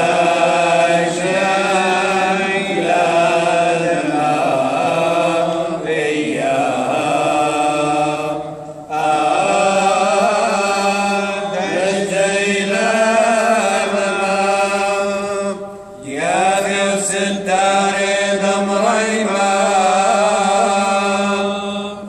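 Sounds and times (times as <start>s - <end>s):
group chanting a prayer: 0.0s - 22.0s.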